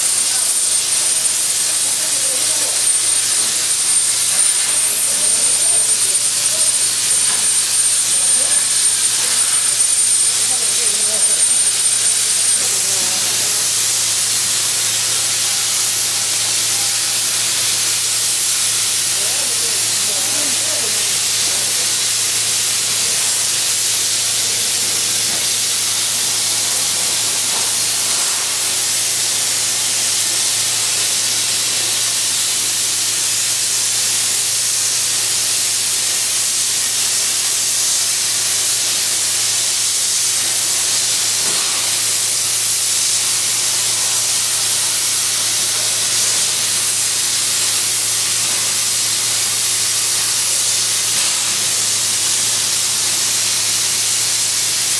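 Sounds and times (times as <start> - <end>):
plasma torch hissing: 0.0 - 54.9.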